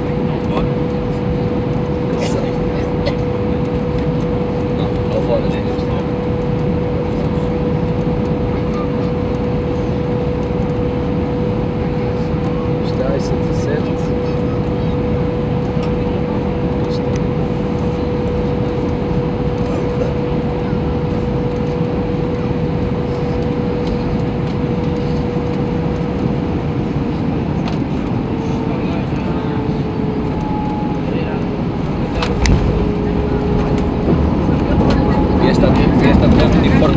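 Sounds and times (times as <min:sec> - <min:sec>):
airplane cabin engine rumble: 0:00.0 - 0:36.9
constant hum tone: 0:00.0 - 0:36.9
engine whine: 0:00.0 - 0:36.9.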